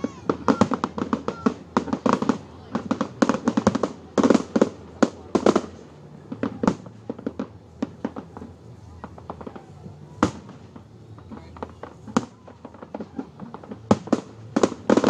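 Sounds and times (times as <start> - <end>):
fireworks bangs: 0.0 - 15.0
fireworks pops and cracks: 0.0 - 15.0.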